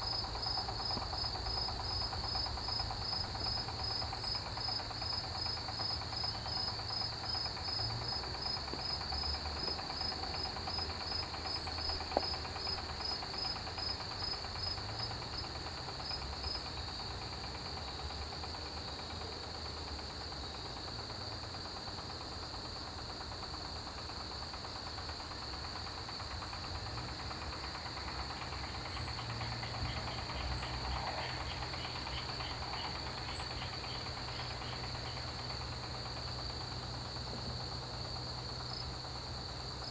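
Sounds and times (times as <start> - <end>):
insects trilling: 0.0 - 39.9
pulsed cricket chirping: 0.0 - 39.9.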